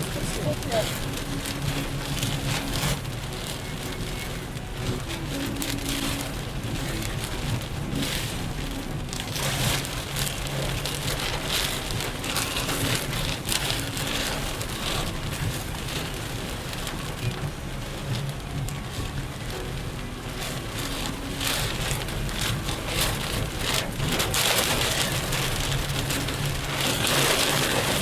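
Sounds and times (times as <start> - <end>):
heavy rain on a car: 0.0 - 28.0
road and engine hum: 0.0 - 28.0.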